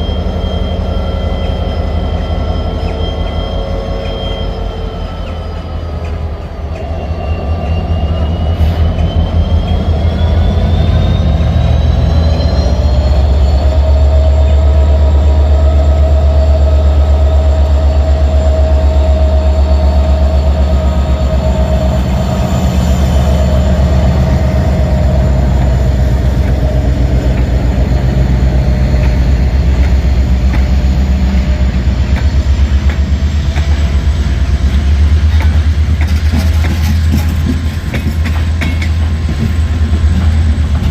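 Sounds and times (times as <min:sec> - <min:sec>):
diesel locomotive engine drone: 0:00.0 - 0:40.9.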